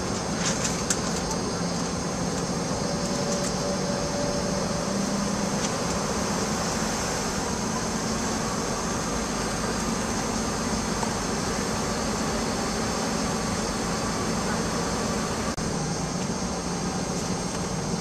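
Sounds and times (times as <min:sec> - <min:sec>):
cabin air-conditioning running: 0:00.0 - 0:18.0
faint high whine: 0:00.0 - 0:18.0
jet engines idling: 0:00.0 - 0:18.0.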